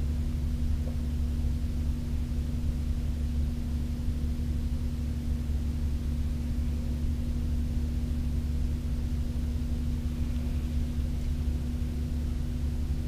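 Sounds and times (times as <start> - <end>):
constant tone: 0.0 - 13.0
steady low hum and rumble: 0.0 - 13.0.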